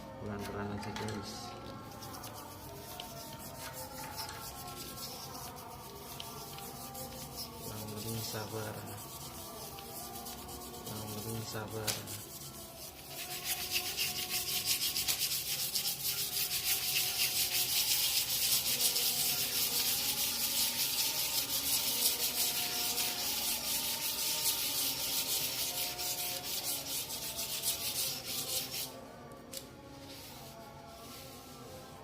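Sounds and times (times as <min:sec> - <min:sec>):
scrubbing on metal: 0:01.9 - 0:29.0.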